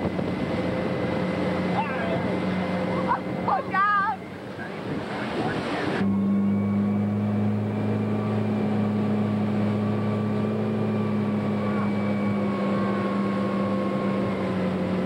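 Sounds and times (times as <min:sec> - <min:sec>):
motorboat engine drone: 0:00.0 - 0:15.0
rushing water of wake: 0:00.0 - 0:15.0.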